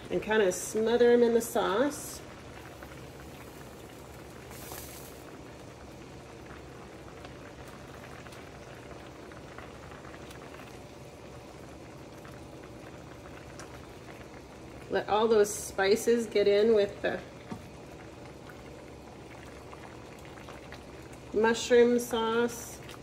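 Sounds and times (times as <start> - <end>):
sauce bubbling in a skillet: 0.0 - 23.0.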